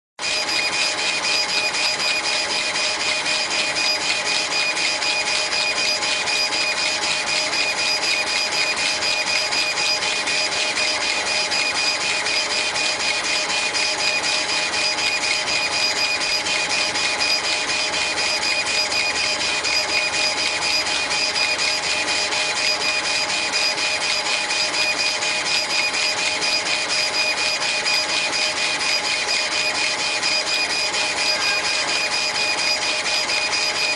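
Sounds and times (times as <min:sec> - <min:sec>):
laser engraver whining and hissing: 0:00.2 - 0:33.9.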